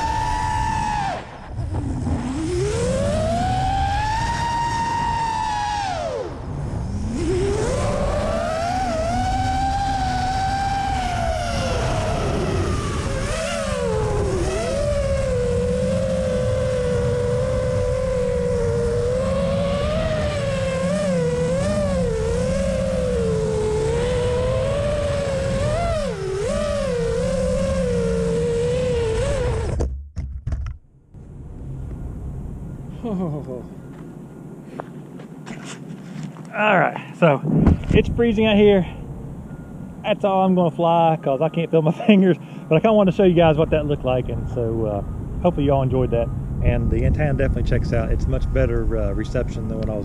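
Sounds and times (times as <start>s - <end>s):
rush of wind: 0.0s - 29.8s, 31.2s - 40.4s, 42.1s - 50.0s
drone motors whining: 0.0s - 29.9s, 31.2s - 50.0s.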